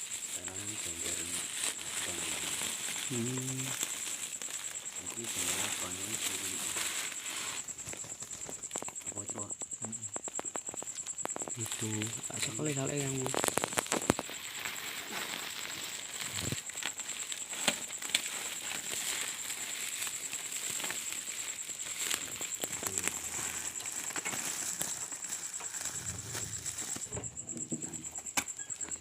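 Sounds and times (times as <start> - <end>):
dry vegetation rustling: 0.0 - 27.2
cricket trilling: 0.0 - 29.0.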